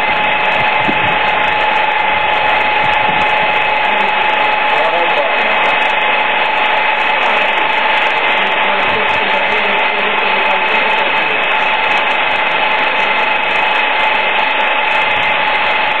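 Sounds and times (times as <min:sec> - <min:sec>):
loud steady whir with tones: 0:00.0 - 0:16.0.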